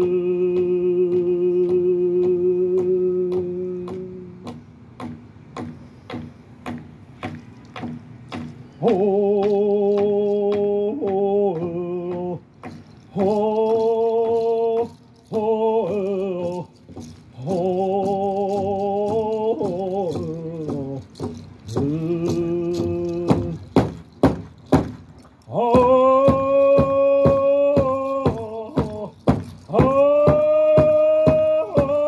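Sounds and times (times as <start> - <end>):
man singing through pa system: 0.0 - 4.7, 8.8 - 24.2, 25.4 - 32.0
steady drum beat: 0.1 - 32.0.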